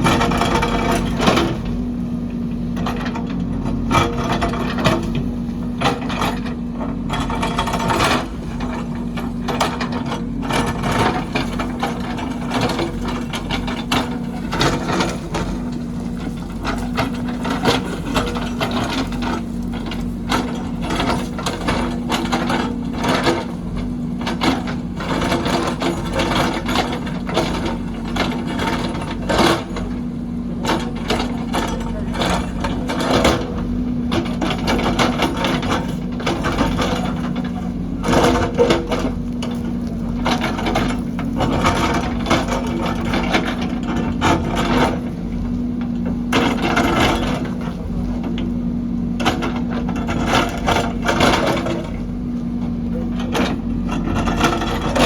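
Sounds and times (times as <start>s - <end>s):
machine clanks and knocks: 0.0s - 1.9s, 2.7s - 55.0s
backhoe diesel engine running: 0.0s - 55.0s.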